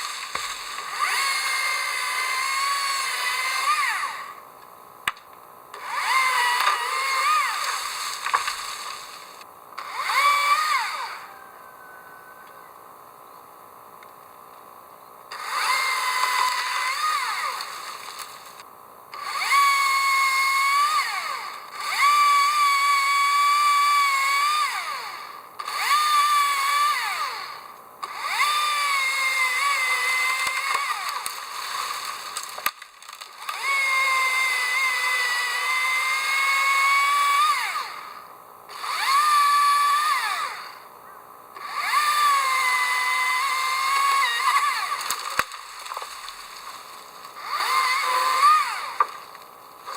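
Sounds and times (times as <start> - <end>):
chainsaw cutting wood: 0.0 - 12.2, 13.5 - 49.9.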